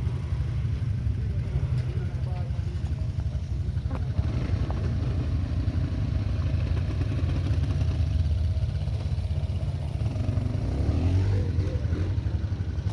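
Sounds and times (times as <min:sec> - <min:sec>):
quad bike engine running: 0:00.0 - 0:12.9.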